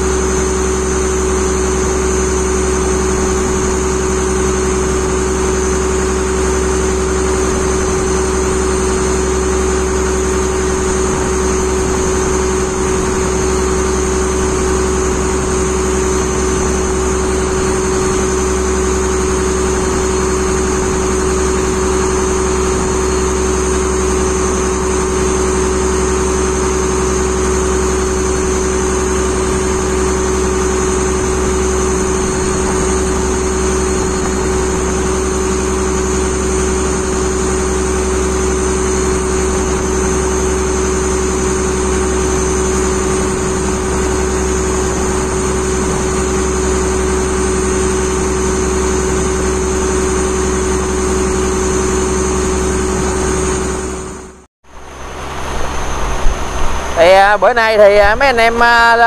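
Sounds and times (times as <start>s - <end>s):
boat engine drone: 0.0s - 59.0s.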